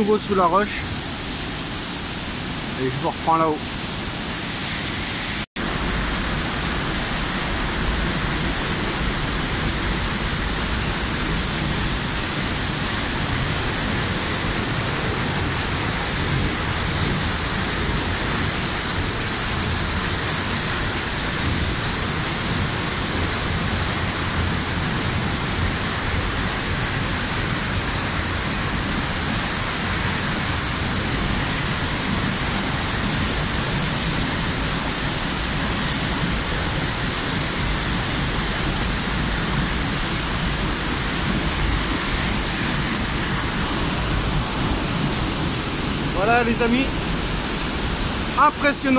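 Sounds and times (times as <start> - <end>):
waterfall rushing onto rock: 0.0 - 48.9.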